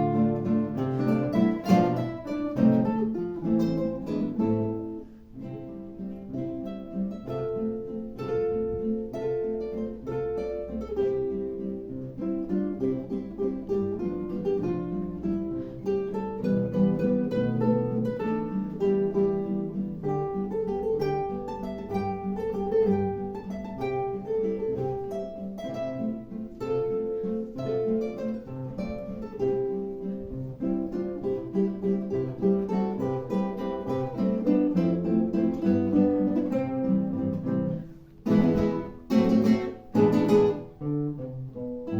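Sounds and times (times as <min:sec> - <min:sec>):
classical guitar music: 0:00.0 - 0:41.9.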